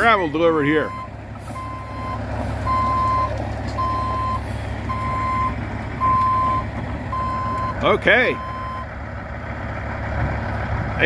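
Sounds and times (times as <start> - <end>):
truck reversing alarm beeps: 0.0 - 8.9
diesel engine rumble: 0.0 - 11.0.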